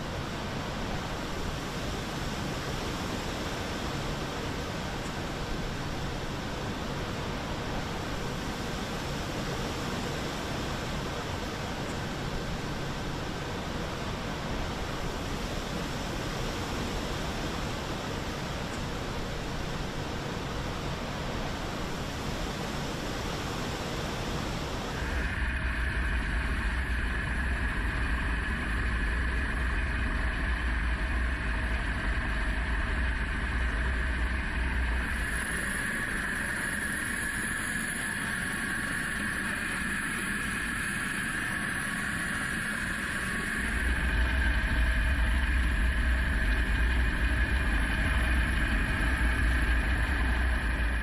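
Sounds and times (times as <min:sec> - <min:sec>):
helicopter rotor and engine hovering: 0:00.0 - 0:51.0.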